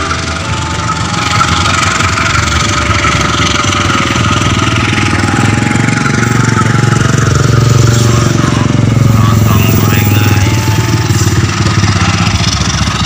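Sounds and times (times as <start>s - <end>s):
rapid even throbbing: 0.0s - 13.0s
train wheels on rail: 0.0s - 13.0s.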